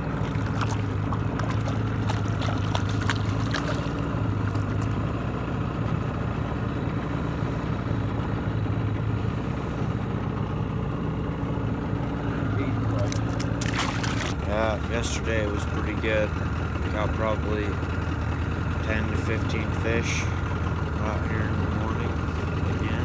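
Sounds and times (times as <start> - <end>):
boat motor idling: 0.0 - 23.0.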